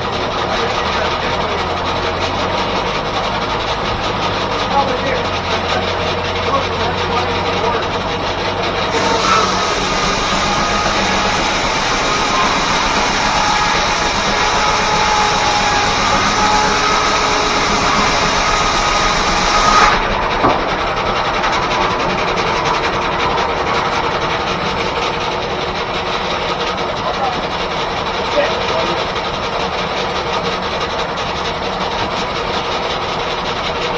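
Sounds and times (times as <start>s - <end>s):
circular saw cutting log: 0.0s - 33.9s
sawmill drive running: 0.0s - 33.9s.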